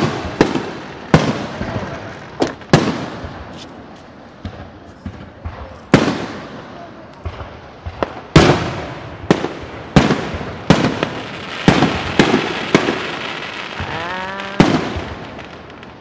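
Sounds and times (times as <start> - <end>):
firework shells booming: 0.0 - 3.7, 4.4 - 16.0.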